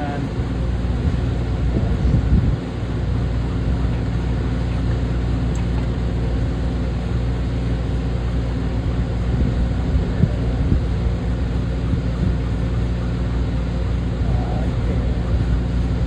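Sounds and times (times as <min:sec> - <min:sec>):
low hum and rumble: 0:00.0 - 0:16.0.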